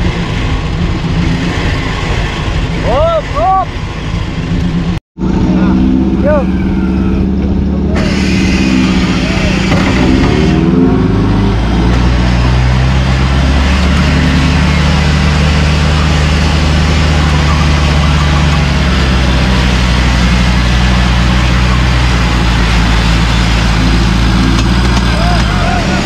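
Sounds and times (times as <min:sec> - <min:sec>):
vehicle engine running at low revs: 0:00.0 - 0:26.0.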